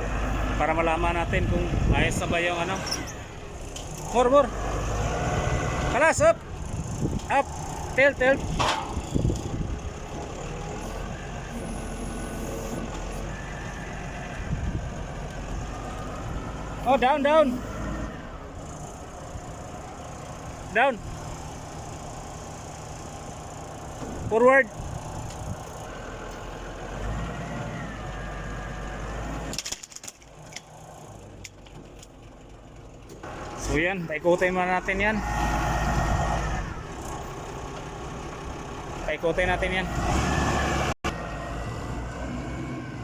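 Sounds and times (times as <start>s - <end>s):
diesel engine running under load: 0.0s - 29.6s, 30.3s - 43.0s.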